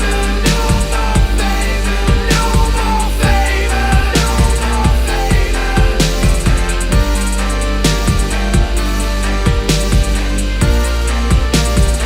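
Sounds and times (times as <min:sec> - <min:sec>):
hip-hop beat: 0:00.0 - 0:12.0.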